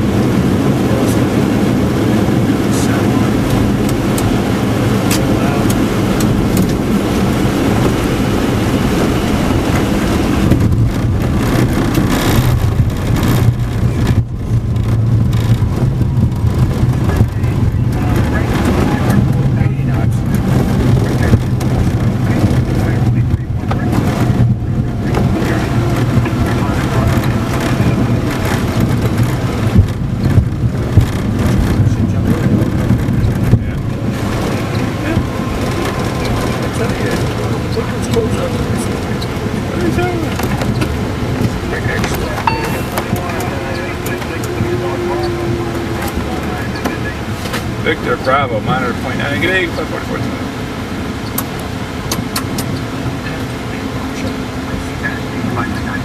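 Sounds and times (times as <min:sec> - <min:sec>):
jet airliner cockpit noise: 0:00.0 - 0:56.0
jet rolling on runway rumble: 0:00.0 - 0:56.0.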